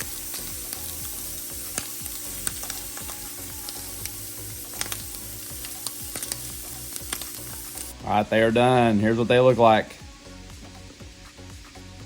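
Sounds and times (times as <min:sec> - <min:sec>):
sausages sizzling in frying pan: 0:00.0 - 0:12.0.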